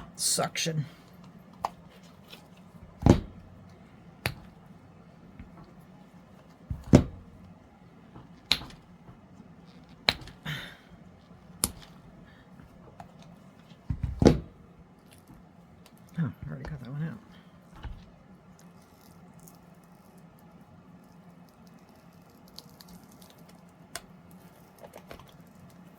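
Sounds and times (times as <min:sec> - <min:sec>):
handling noise of silicone mold: 0:00.0 - 0:25.9.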